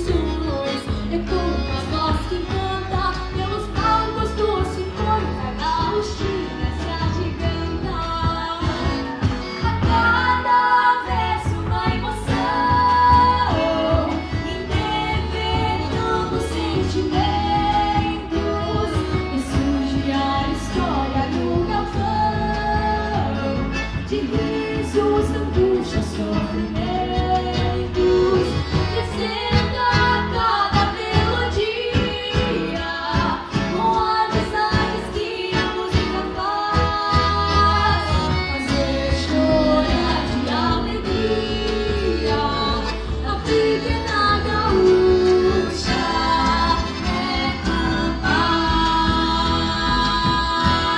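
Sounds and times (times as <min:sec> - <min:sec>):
acoustic guitars: 0:00.0 - 0:50.9
girls singing a duet: 0:09.6 - 0:50.9.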